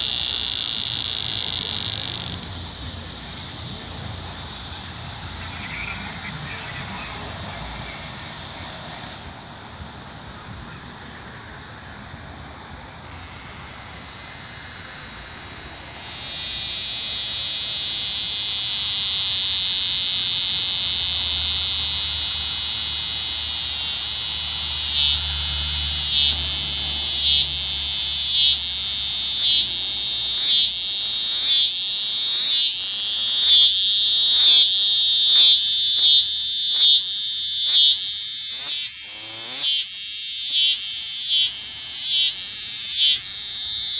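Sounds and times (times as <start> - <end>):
cicada buzzing: 0.0 - 43.9.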